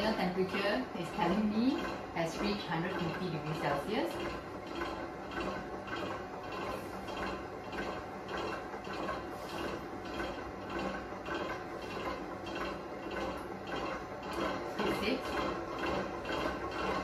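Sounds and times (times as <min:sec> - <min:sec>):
beater swishing churn: 0:00.0 - 0:17.0
stand mixer motor hum: 0:00.0 - 0:17.0.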